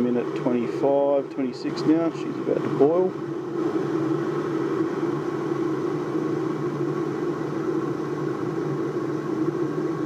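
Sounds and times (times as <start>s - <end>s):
electric kettle hissing: 0.0s - 10.0s.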